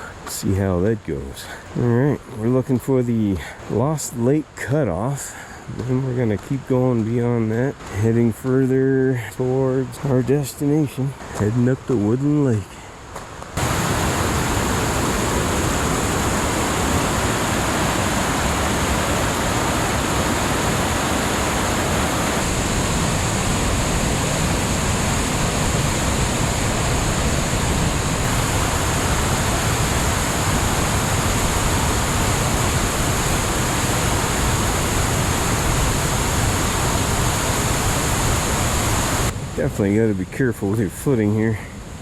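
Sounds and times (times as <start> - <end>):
creek rushing: 0.0 - 42.0.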